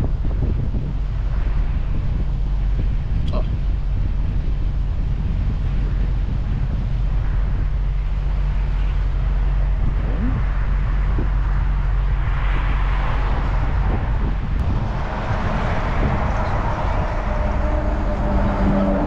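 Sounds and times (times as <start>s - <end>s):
vehicle engine idling: 0.0s - 19.0s
wind noise on microphone: 0.0s - 19.0s.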